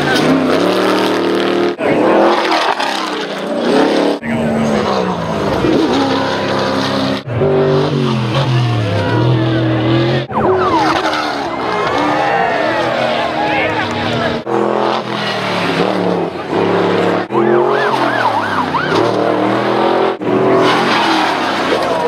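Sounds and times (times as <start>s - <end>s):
truck engines revving hard: 0.0s - 22.0s.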